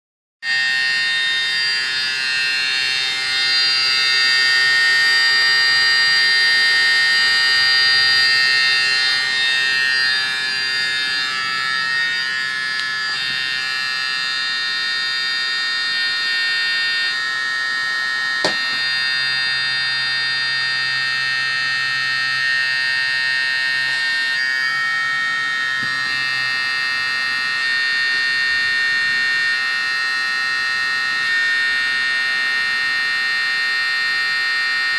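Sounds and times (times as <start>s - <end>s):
hydraulic pump whining: 0.4s - 34.9s.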